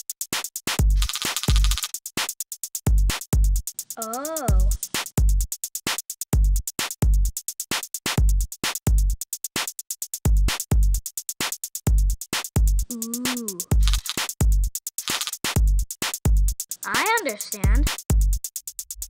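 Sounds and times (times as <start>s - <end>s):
drum-machine beat: 0.0s - 19.0s.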